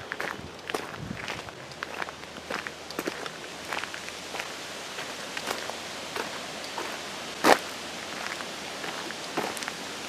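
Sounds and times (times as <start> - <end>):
footsteps on forest trail: 0.0 - 9.8.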